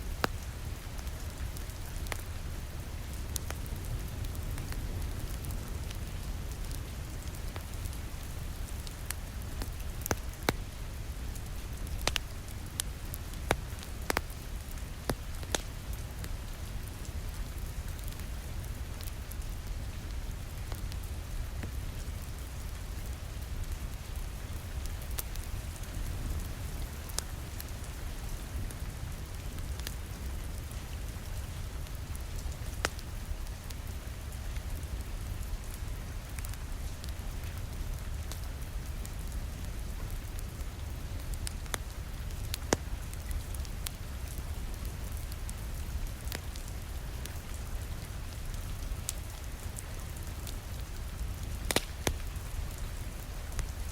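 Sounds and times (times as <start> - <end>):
rain on a window: 0.0 - 53.9
wood fire crackling and popping: 0.0 - 53.9.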